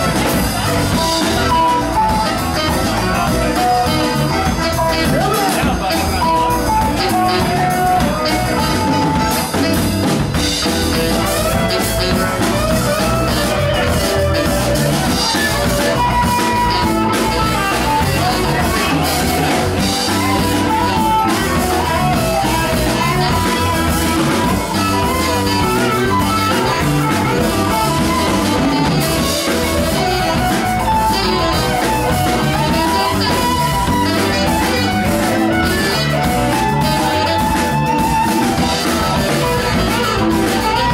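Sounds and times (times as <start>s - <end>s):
live band playing latin rock: 0.0s - 40.9s
saxophone melody: 0.0s - 40.9s.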